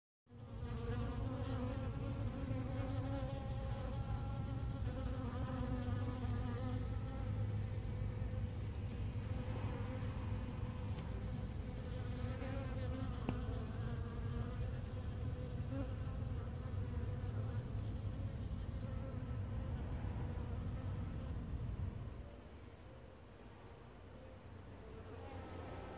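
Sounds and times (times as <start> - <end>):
honey bees buzzing: 0.3 - 21.6, 24.2 - 25.9.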